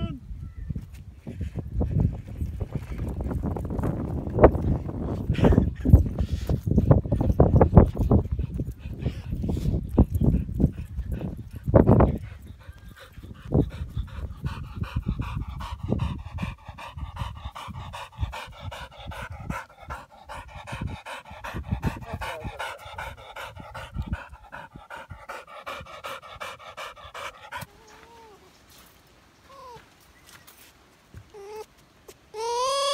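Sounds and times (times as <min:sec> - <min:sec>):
dog panting hard: 0:01.3 - 0:28.2.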